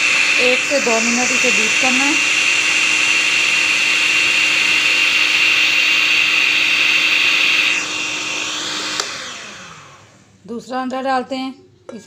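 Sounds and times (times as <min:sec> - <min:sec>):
stand mixer motor whine: 0:00.0 - 0:10.3.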